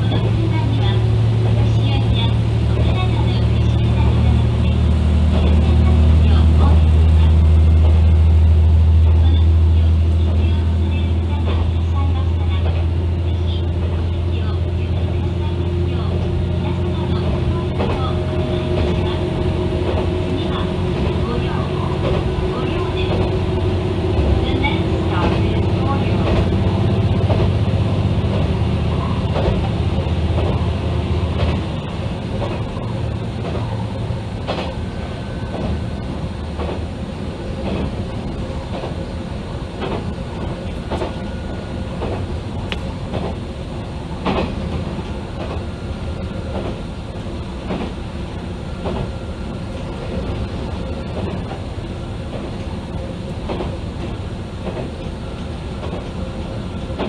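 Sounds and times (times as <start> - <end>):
railcar engine hum: 0.0 - 57.0
train rolling noise: 0.0 - 57.0.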